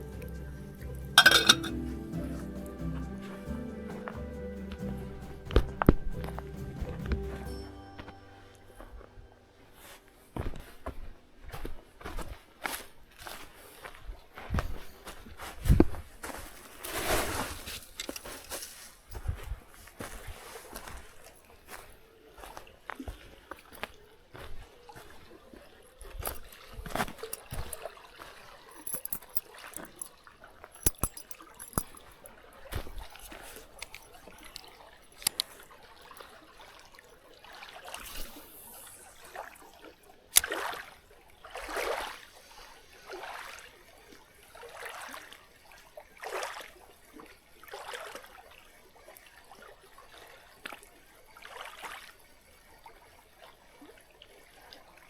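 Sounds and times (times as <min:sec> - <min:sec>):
water trickling and splashing: 0:00.0 - 0:07.6, 0:09.8 - 0:55.0.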